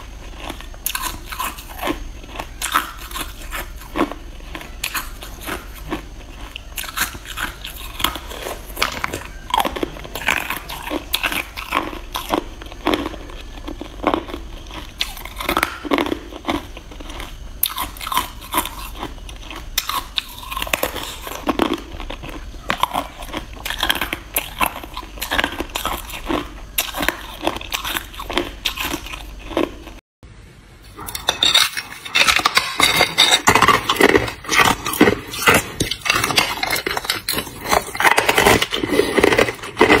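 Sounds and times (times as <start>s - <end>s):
ice being bitten and chewed: 0.0s - 30.0s, 30.9s - 40.0s.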